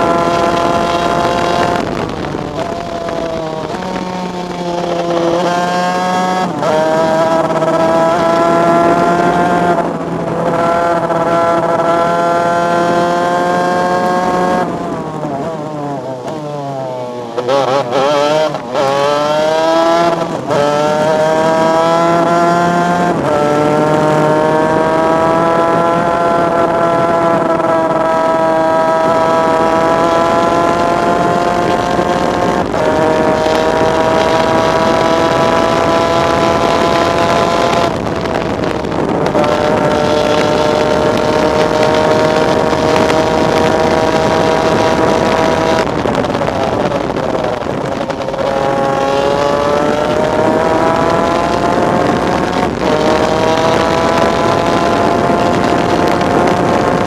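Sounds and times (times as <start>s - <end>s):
kart engine at race speed: 0.0s - 57.0s.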